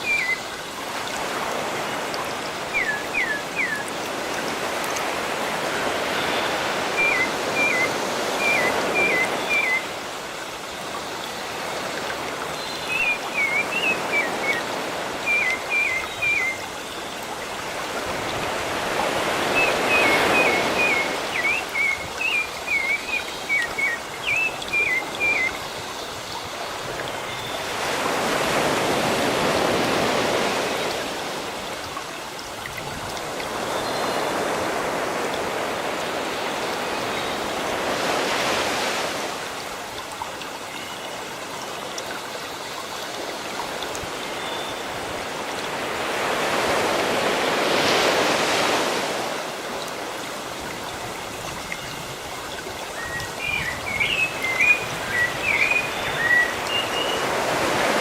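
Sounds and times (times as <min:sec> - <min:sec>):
sea waves washing in: 0:00.0 - 0:40.6, 0:41.4 - 0:58.0.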